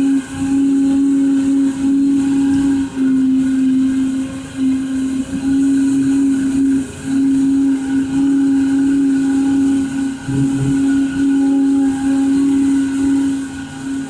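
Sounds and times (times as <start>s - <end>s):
machine motors whining: 0.0s - 14.0s.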